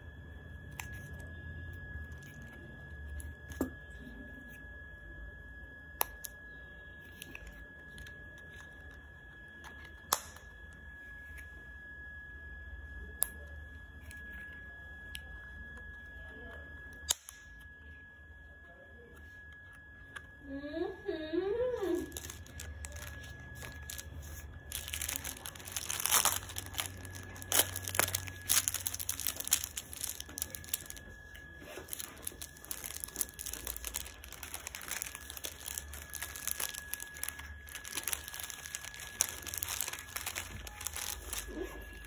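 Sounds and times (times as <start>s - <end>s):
high-pitched whine: 0.0s - 42.0s
low hum: 0.0s - 42.0s.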